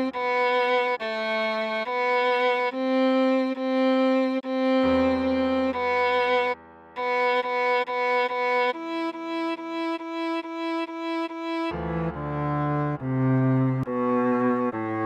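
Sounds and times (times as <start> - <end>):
cello playing slow melody: 0.0 - 15.0.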